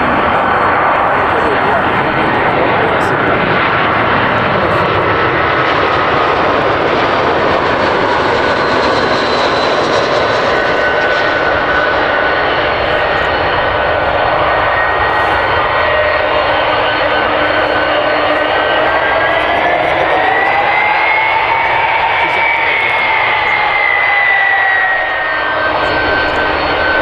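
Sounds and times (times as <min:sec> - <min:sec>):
jet engine whine: 0:00.0 - 0:27.0.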